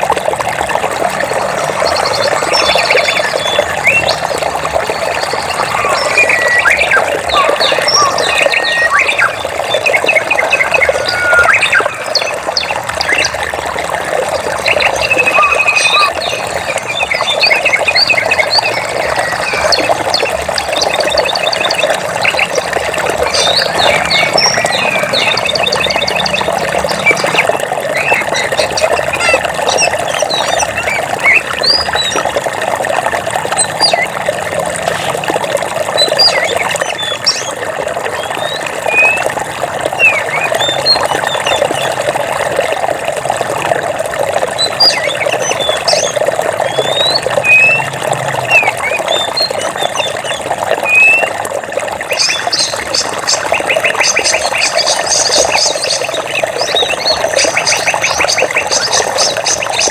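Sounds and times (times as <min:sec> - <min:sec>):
flowing water rushing: 0:00.0 - 0:59.9
birds chirping and whistling: 0:01.4 - 0:13.4, 0:14.4 - 0:32.4, 0:33.5 - 0:34.2, 0:35.9 - 0:42.0, 0:44.6 - 0:51.4, 0:52.1 - 0:59.9.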